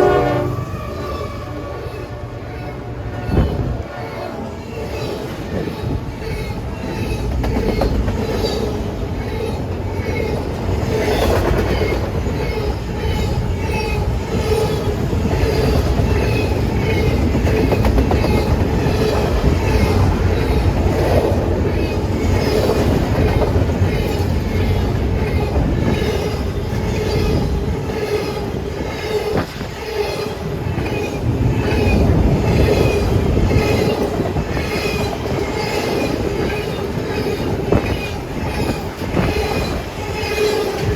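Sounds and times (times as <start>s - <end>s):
train rumbling past: 0.0s - 40.9s.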